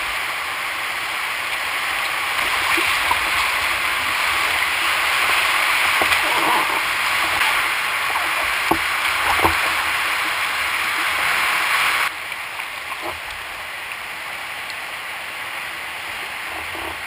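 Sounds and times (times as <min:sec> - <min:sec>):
water lapping around a kayak: 0:00.0 - 0:17.0.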